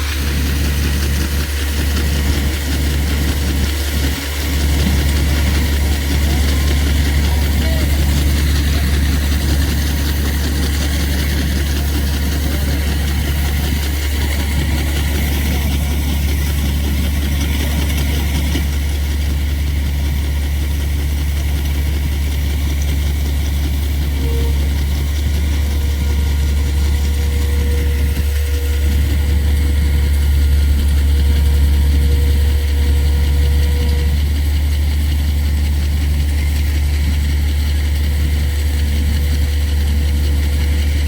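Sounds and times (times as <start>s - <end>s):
harvesting machine engine humming: 0.0s - 41.0s.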